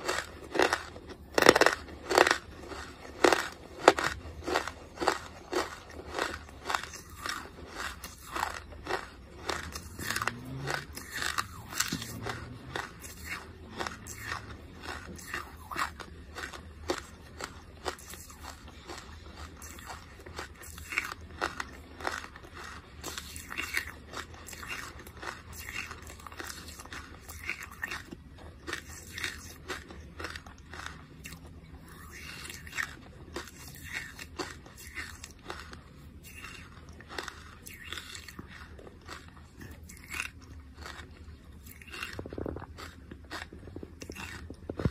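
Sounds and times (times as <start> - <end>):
mouth chewing with dry crunches: 0.0 - 44.9.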